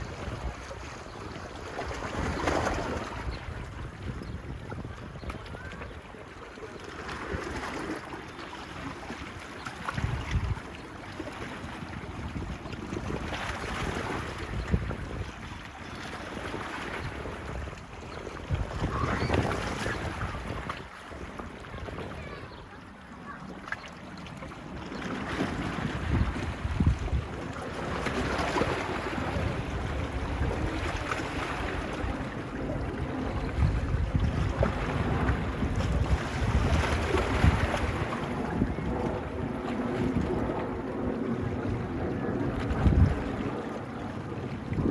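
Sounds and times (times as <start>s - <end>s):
small waves washing on beach: 0.0s - 44.9s
wind buffeting microphone: 0.0s - 44.9s.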